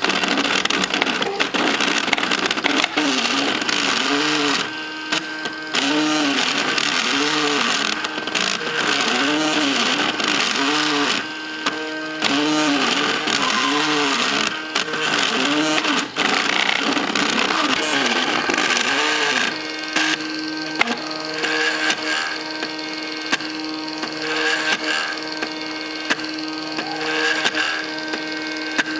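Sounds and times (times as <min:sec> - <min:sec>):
printer stepper motors whining: 0:00.0 - 0:28.9.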